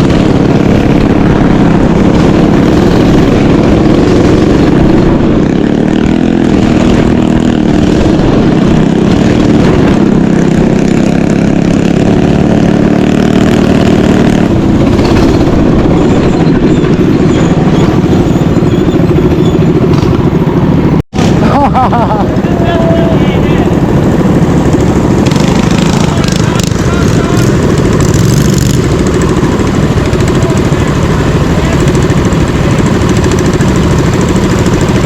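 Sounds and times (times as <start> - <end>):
mini bike engine running hard: 0.0 - 35.0.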